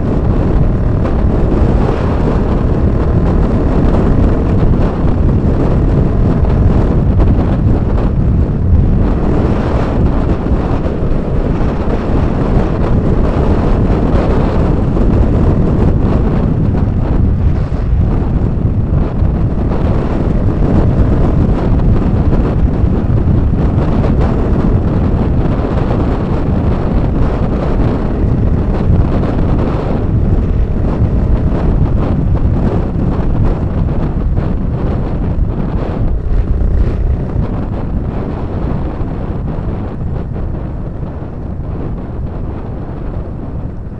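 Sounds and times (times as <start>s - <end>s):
motorcycle engine rumble: 0.0s - 43.9s
road noise: 0.0s - 43.9s
wind buffeting microphone: 0.0s - 43.9s.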